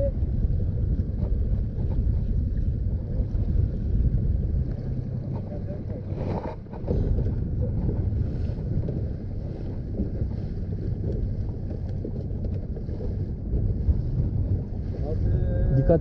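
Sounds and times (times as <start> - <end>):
boat motor rumbling: 0.0 - 16.0
wind buffeting microphone: 0.0 - 16.0.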